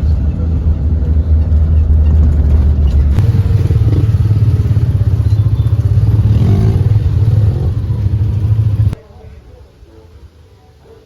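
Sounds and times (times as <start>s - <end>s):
vehicle engine droning: 0.0s - 9.0s.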